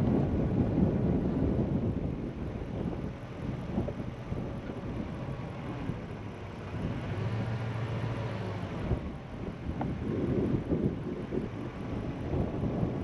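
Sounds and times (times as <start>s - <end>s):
vehicle engine running at low speed: 0.0s - 13.0s.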